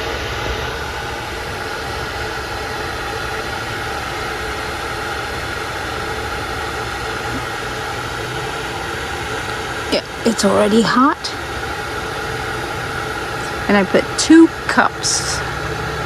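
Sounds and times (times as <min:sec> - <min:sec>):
electric kettle heating water: 0:00.0 - 0:16.0.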